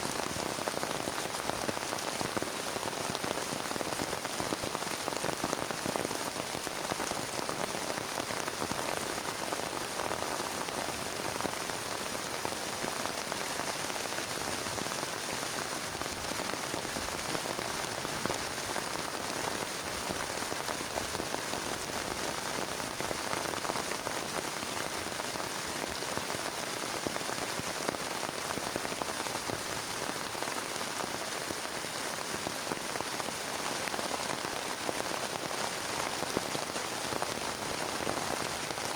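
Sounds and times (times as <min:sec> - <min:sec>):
heavy rain on a plastic tarp: 0:00.0 - 0:38.9.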